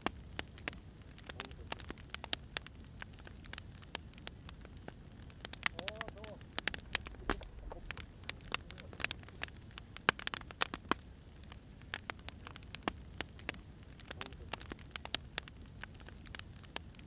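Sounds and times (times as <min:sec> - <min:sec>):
low fire rumble: 0:00.0 - 0:17.0
wood fire crackling: 0:00.0 - 0:17.0.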